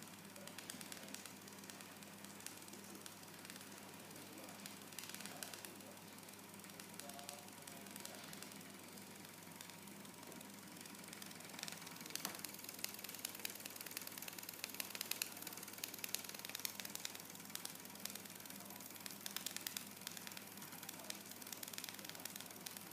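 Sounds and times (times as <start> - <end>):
model steam engine ticking: 0.0 - 22.9.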